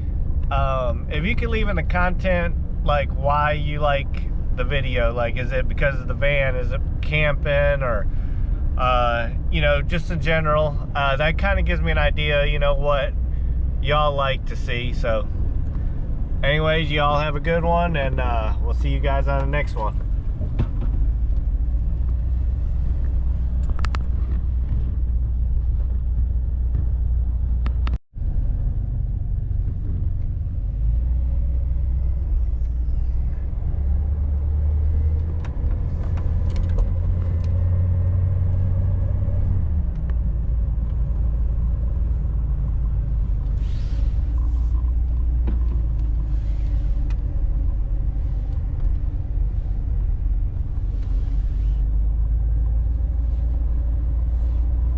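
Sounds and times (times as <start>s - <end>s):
van engine rumbling: 0.0s - 54.9s.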